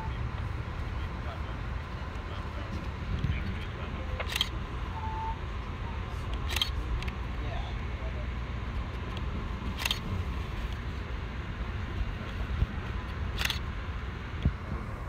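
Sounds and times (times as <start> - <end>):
train rumble from inside: 0.0 - 15.0.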